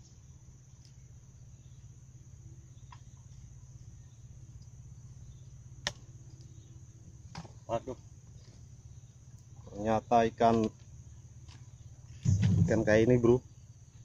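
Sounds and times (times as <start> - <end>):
insects chorus: 0.0 - 14.0
low steady hum: 0.0 - 14.0.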